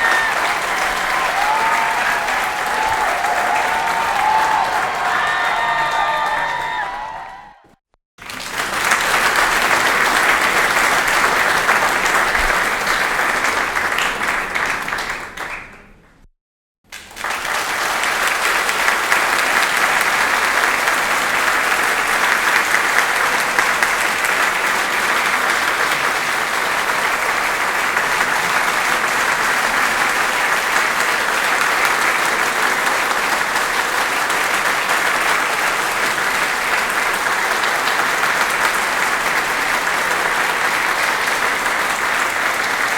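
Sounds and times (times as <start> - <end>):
audience applause: 0.0 - 16.0, 16.9 - 42.9.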